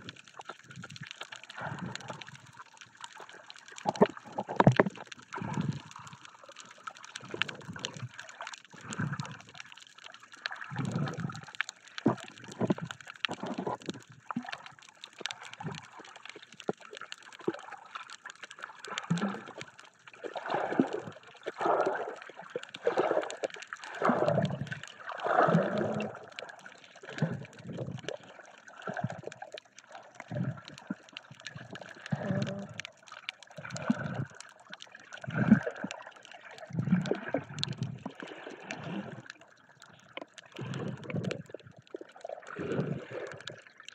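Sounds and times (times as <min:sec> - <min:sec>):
muffled underwater water sloshing: 0:00.0 - 0:43.9.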